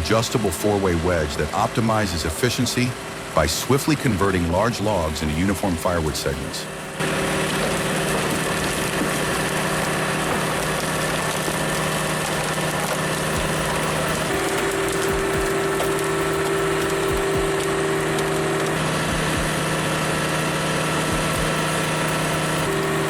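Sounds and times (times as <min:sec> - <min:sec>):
diesel engine running: 0:00.0 - 0:23.0
high whine: 0:00.0 - 0:23.0.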